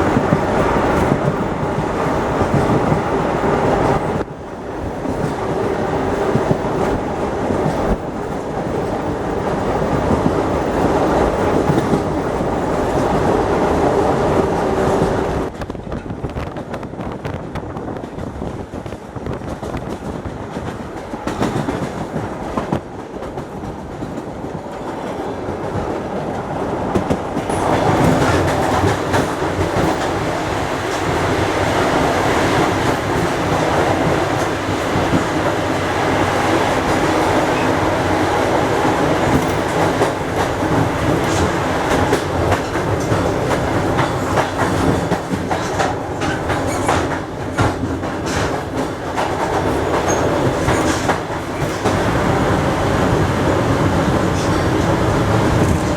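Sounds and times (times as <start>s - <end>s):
train running on rails: 0.0s - 55.9s.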